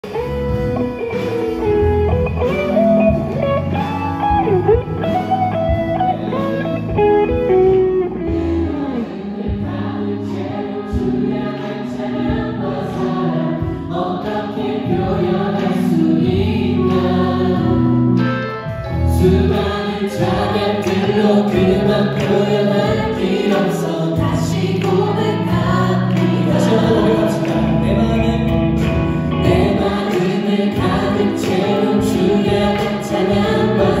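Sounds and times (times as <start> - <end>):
worship band playing: 0.0 - 34.0
group of people singing: 4.5 - 34.0.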